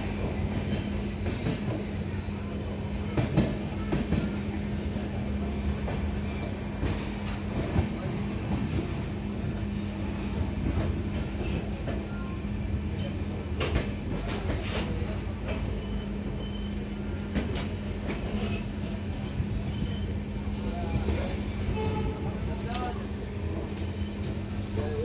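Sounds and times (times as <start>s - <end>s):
train rumbling and humming: 0.0s - 25.0s.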